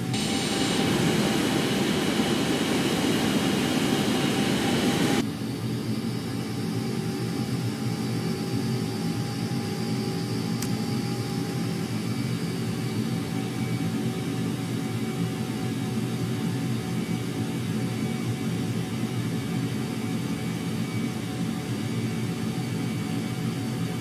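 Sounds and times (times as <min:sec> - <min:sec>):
jet engines running loudly: 0:00.0 - 0:24.0.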